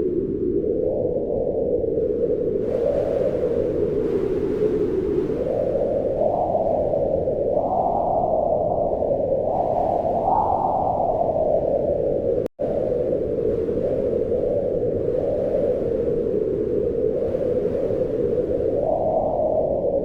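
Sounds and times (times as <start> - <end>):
howling wind: 0.0 - 20.0.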